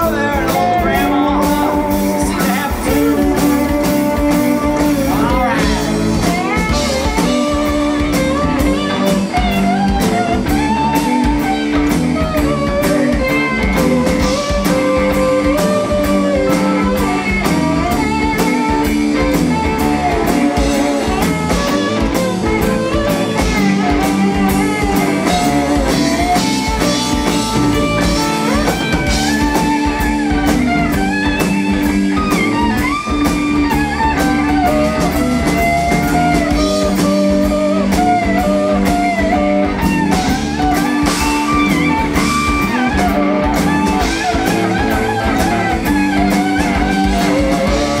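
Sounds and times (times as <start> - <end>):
drum kit: 0.0 - 48.0
electric bass: 0.0 - 48.0
electric guitar lead: 0.0 - 48.0.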